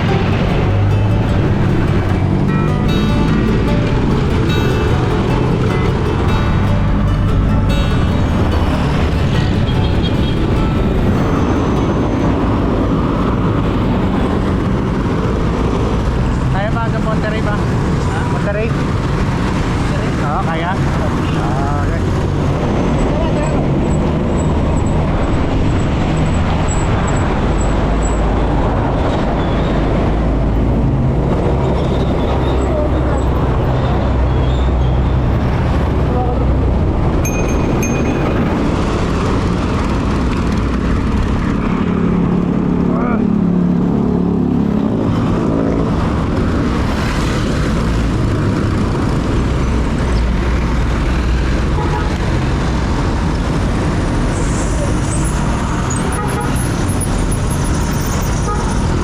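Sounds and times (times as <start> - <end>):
passing cars: 0.0 - 59.0
road and traffic noise: 0.0 - 59.0.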